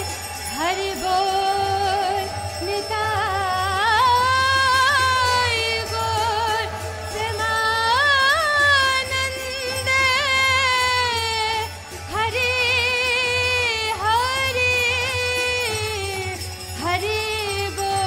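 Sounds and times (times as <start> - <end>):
harmonium drone: 0.0 - 18.0.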